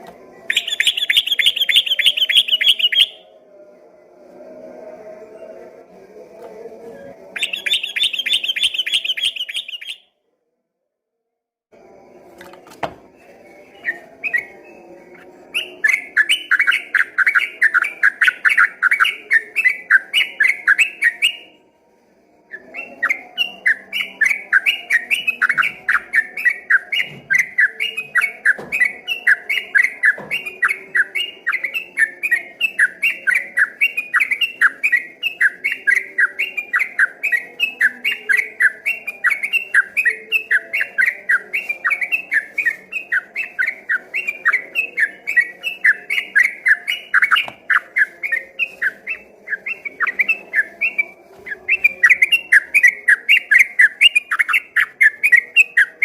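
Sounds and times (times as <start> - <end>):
bird singing rapid whistled notes: 0.5 - 3.3, 7.3 - 10.1, 13.3 - 14.8, 15.4 - 21.6, 22.6 - 56.0.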